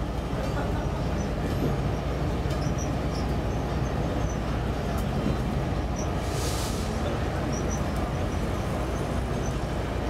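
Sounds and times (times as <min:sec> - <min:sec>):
train cars rumbling on rails: 0:00.0 - 0:10.0.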